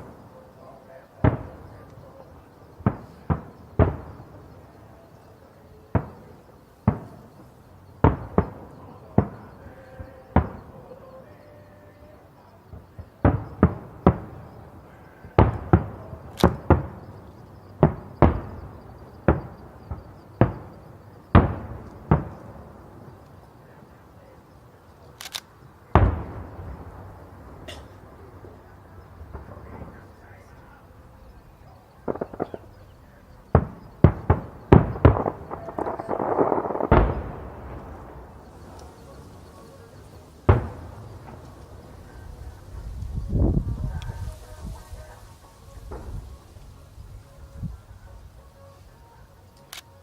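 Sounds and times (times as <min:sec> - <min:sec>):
fireworks bangs echoing: 0:00.0 - 0:50.0.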